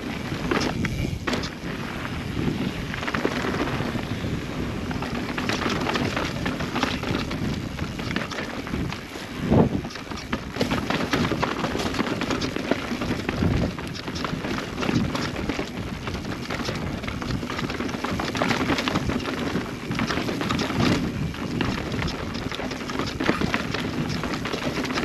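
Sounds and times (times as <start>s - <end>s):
bike tyres rolling over rough ground: 0.0s - 25.0s
wind on microphone: 0.0s - 25.0s
bike clattering over bumps: 0.2s - 2.2s, 2.9s - 4.1s, 4.8s - 25.0s.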